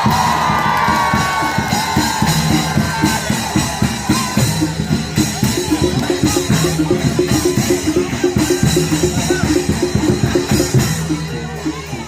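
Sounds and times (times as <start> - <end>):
drums: 0.0 - 12.0
gamelan music: 0.0 - 12.0.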